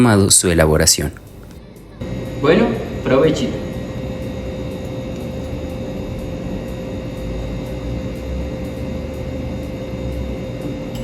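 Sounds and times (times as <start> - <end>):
steady droning hum: 0.0 - 11.0.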